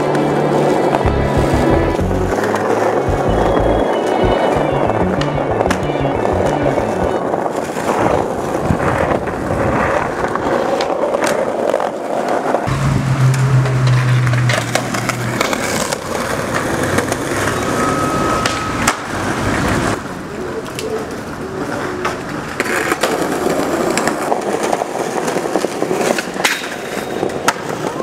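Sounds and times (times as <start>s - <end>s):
skateboard clacking on ground: 0.0s - 12.7s, 13.3s - 28.0s
skateboard rolling on pavement: 0.0s - 28.0s.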